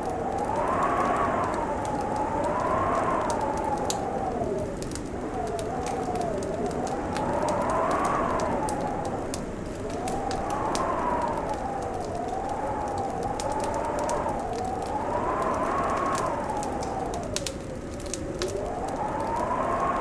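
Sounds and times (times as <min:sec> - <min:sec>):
fireplace crackling and popping: 0:00.0 - 0:20.0
howling wind: 0:00.0 - 0:20.0.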